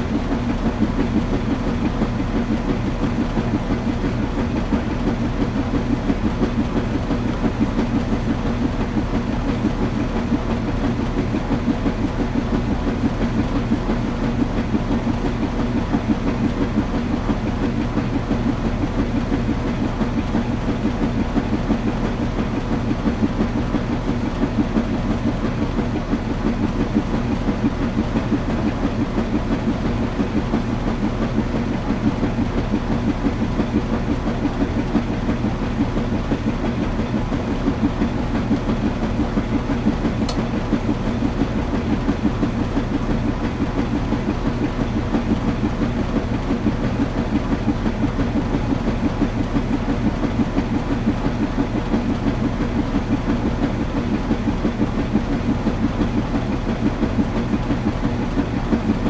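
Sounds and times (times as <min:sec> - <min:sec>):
washing machine churning: 0:00.0 - 0:59.0.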